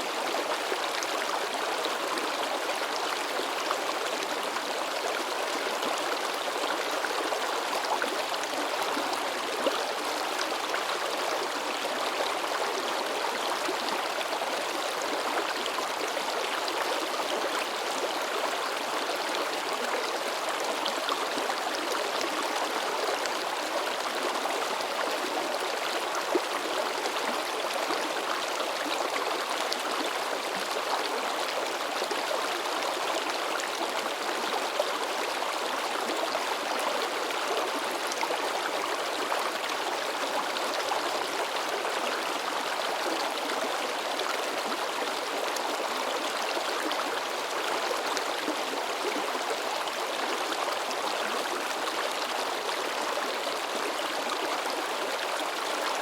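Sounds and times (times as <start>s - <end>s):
river babbling: 0.0s - 56.0s.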